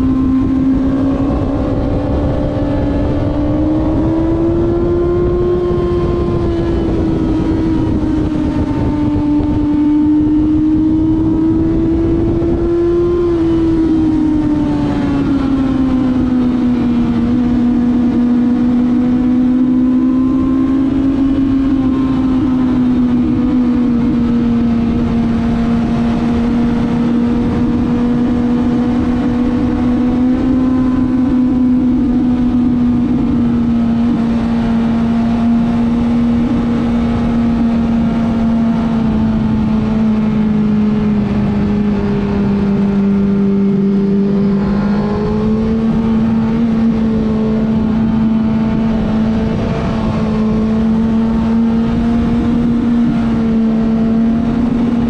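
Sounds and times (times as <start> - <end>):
motorcycle engine at high revs: 0.0 - 55.0
wind noise: 0.0 - 55.0.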